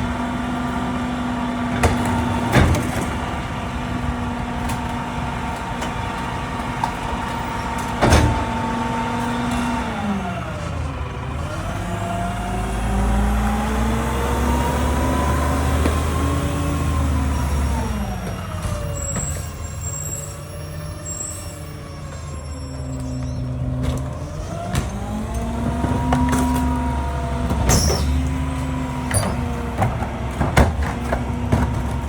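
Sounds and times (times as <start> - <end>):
garbage truck diesel engine: 0.0 - 32.0.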